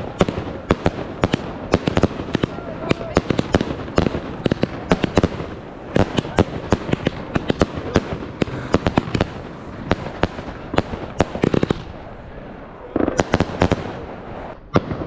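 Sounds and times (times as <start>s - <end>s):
distant fireworks crackle: 0.0s - 15.0s
fireworks bangs: 0.0s - 15.0s.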